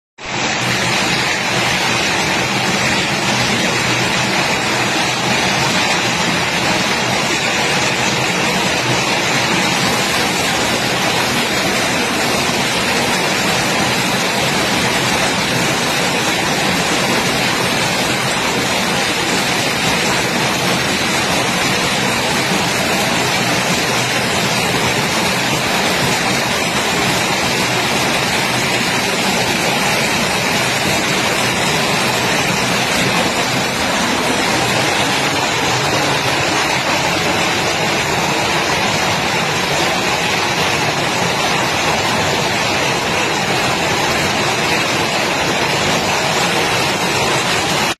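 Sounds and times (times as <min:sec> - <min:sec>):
heavy rain pouring: 0:00.2 - 0:47.9.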